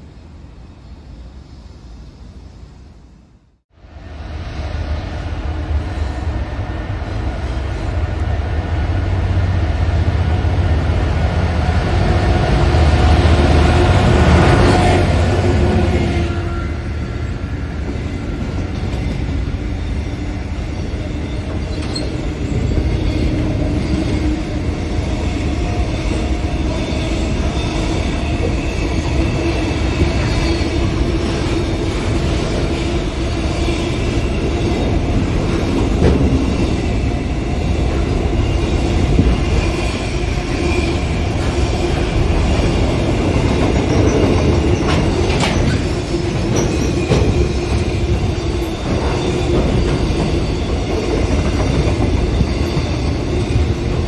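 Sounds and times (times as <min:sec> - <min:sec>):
train wheels rumbling and clattering: 0:04.4 - 0:54.0.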